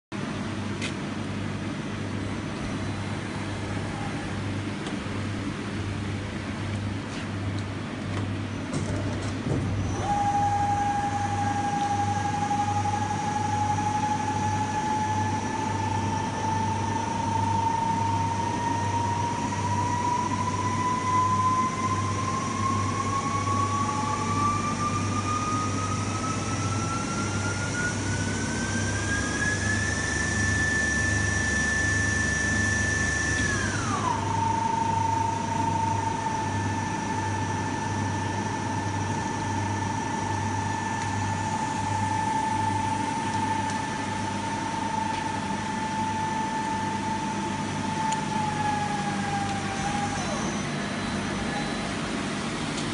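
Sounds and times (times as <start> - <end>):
lathe spindle whining: 9.7 - 52.7.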